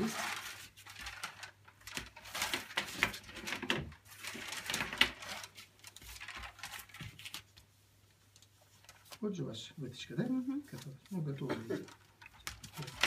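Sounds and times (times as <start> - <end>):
paper rustling and crinkling: 0.0 - 9.4, 10.1 - 13.0.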